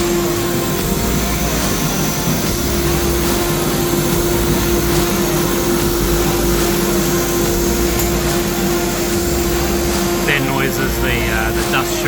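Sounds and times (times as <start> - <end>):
dust extractor humming: 0.0 - 12.0.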